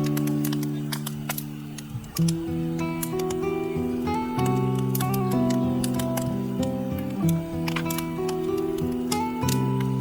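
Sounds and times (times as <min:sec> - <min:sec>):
acoustic guitar music: 0:00.0 - 0:10.0
campfire crackling: 0:00.0 - 0:10.0.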